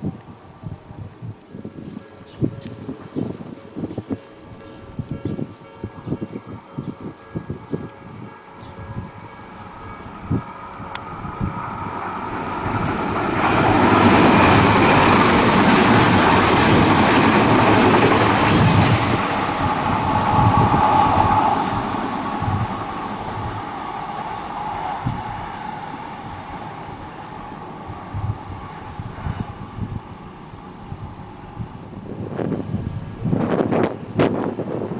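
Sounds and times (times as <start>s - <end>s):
train whine: 0.0s - 34.9s
train wheels rumbling on rails: 0.7s - 34.9s.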